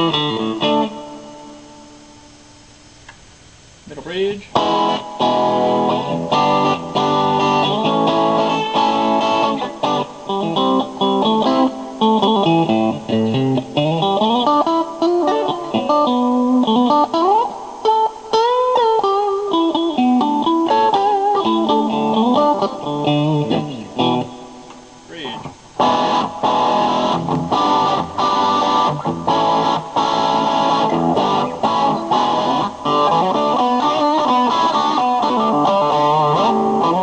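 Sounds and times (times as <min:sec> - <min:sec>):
electric guitar through crunchy amp: 0:00.0 - 0:37.0.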